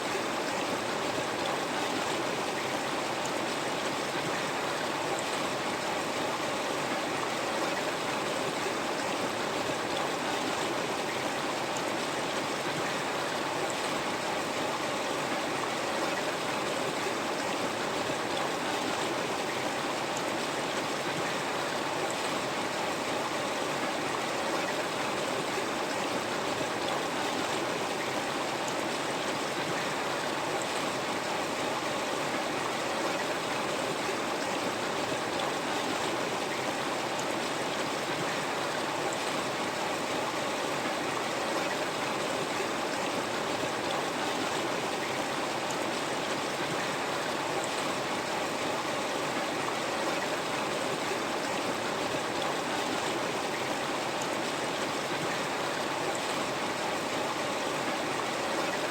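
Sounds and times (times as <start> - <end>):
river water flowing over rocks: 0.0 - 58.9.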